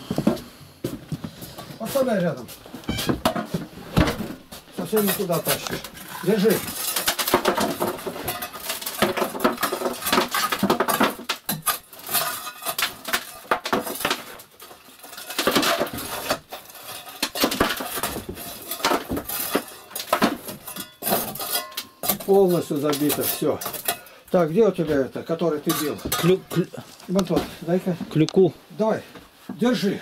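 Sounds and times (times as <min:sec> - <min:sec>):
soot scraping and rattling: 0:01.3 - 0:28.2.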